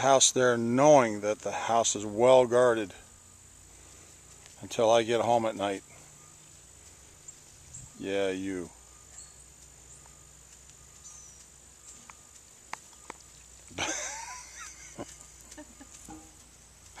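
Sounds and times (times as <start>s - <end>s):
crickets buzzing: 0.0s - 17.0s.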